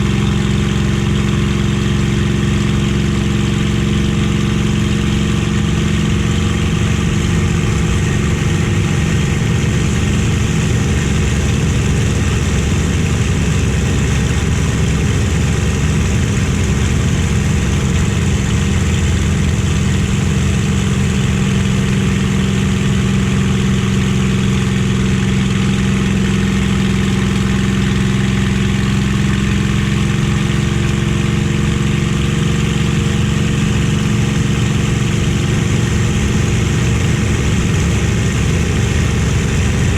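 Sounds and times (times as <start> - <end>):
aircraft piston engine droning: 0.0 - 39.9.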